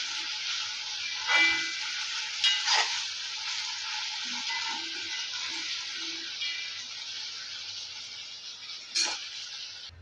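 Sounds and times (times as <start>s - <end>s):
spatula scraping pan: 0.0s - 8.1s
potatoes sizzling in oil: 0.0s - 10.0s.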